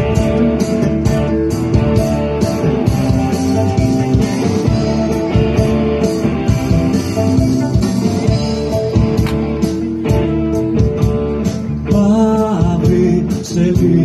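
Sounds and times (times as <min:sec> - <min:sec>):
bass guitar: 0:00.0 - 0:14.0
drum kit steady beat: 0:00.0 - 0:14.0
guitar lines: 0:00.0 - 0:14.0.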